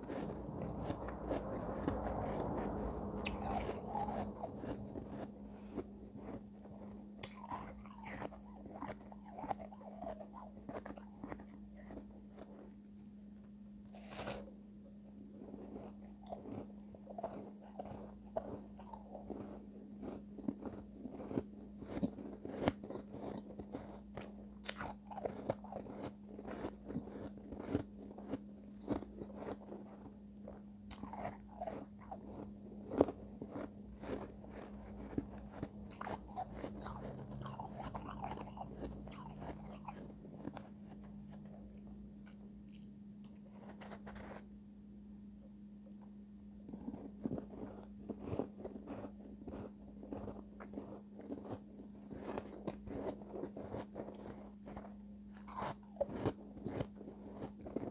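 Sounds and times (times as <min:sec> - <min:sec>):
ice crunching while chewed: 0:00.0 - 0:13.1, 0:13.8 - 0:44.5, 0:46.0 - 0:57.9
low hum: 0:00.0 - 0:52.2.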